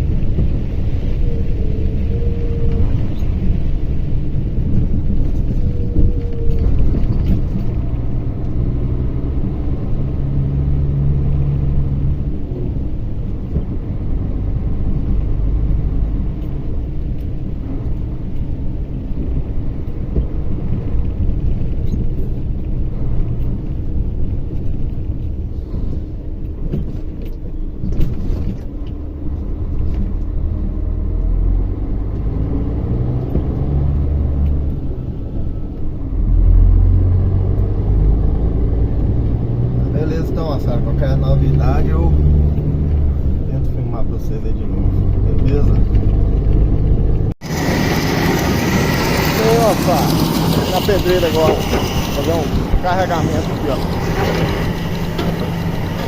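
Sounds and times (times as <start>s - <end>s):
truck diesel engine rumbling: 0.0s - 56.0s.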